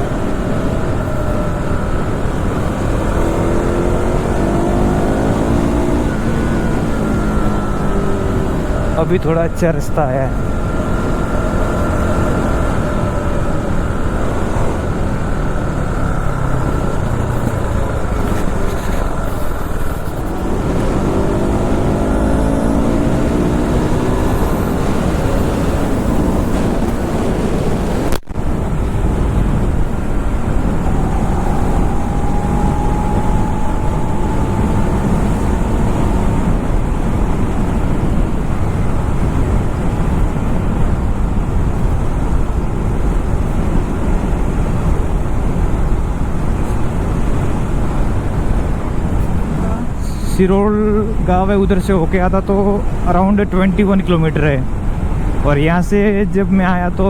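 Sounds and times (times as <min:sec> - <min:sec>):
motorcycle engine running: 0:00.0 - 0:51.7
wind rushing on microphone: 0:00.0 - 0:57.0.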